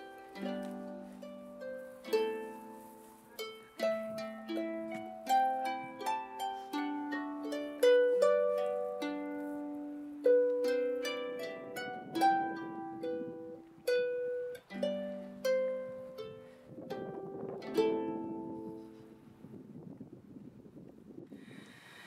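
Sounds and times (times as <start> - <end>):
harp playing: 0.0 - 19.8.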